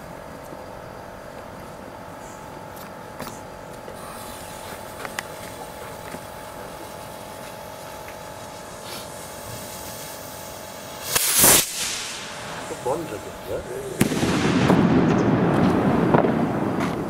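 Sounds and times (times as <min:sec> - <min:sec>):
steady hum: 0:00.0 - 0:17.0
firework fuse fizzing: 0:03.2 - 0:17.0.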